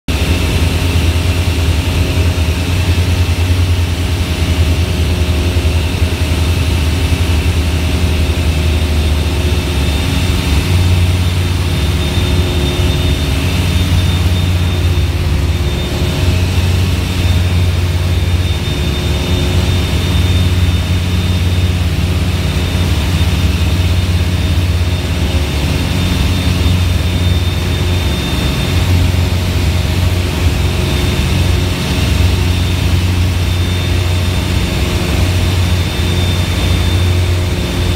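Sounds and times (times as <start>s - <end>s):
airplane cabin engine drone: 0.1s - 37.9s
faint high whine: 0.2s - 37.9s.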